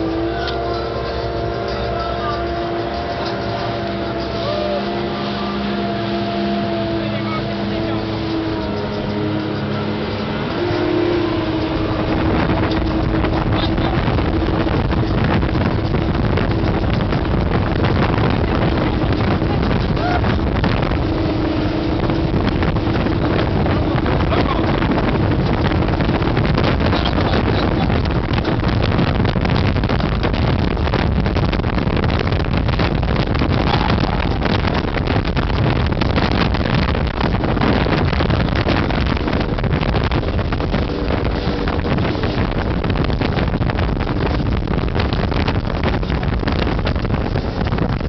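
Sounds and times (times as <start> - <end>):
boat engine running: 0.0 - 48.0
wind buffeting microphone: 0.0 - 48.0.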